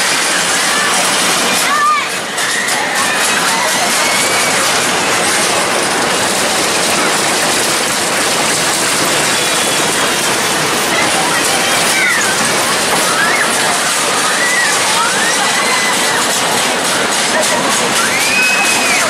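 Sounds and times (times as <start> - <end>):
carnival midway din: 0.0 - 19.0
high curving squeals: 1.6 - 19.0.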